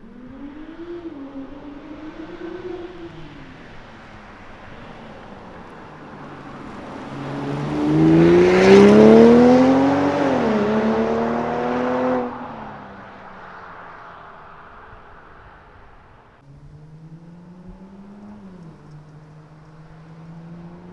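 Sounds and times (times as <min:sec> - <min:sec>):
car engine accelerating hard: 0:00.0 - 0:20.9.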